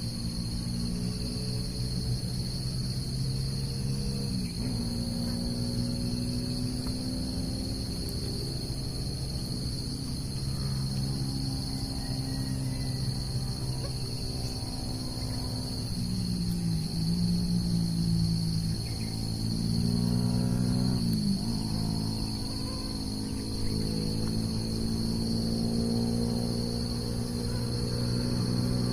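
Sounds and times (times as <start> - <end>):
insects chirring: 0.0 - 28.9.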